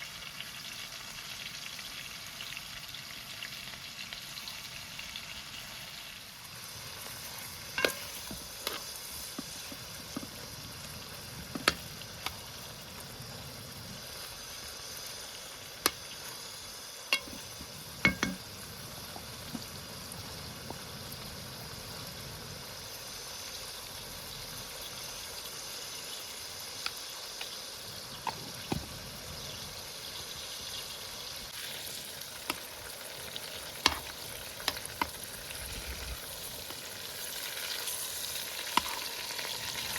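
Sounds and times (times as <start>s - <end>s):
food sizzling: 0.0s - 39.9s.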